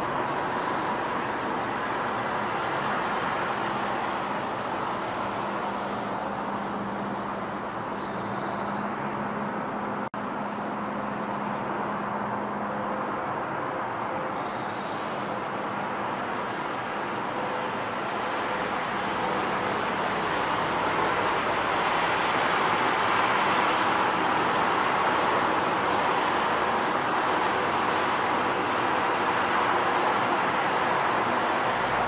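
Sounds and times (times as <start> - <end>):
distant road traffic: 0.0 - 32.0.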